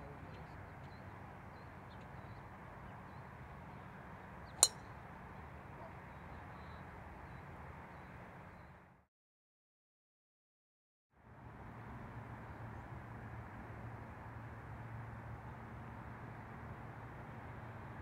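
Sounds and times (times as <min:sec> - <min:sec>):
faint outdoor background: 0:00.0 - 0:09.1, 0:11.1 - 0:18.0.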